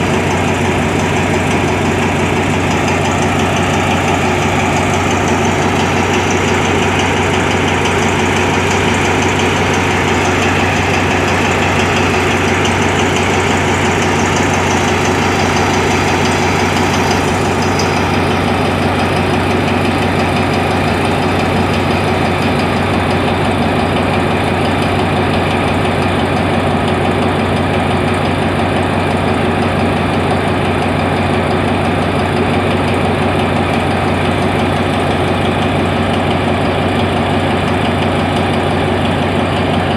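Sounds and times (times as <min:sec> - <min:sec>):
diesel locomotive engine idling: 0:00.0 - 0:39.9.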